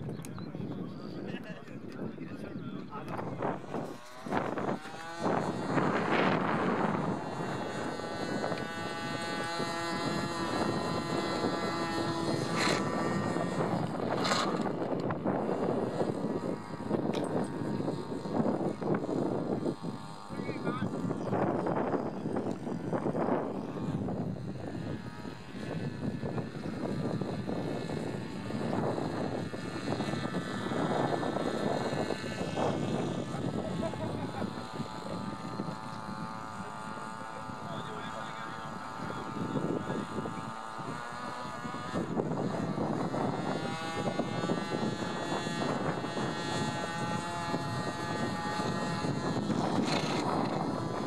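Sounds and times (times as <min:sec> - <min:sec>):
model aircraft motor and propeller: 0:00.0 - 0:51.0
wind on microphone: 0:00.0 - 0:51.0.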